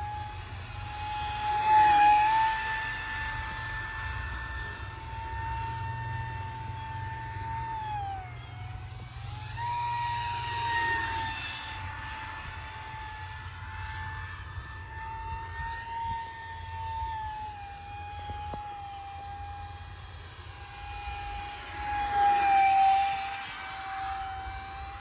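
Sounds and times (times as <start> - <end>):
electric ducted fan whine: 0.0 - 25.0.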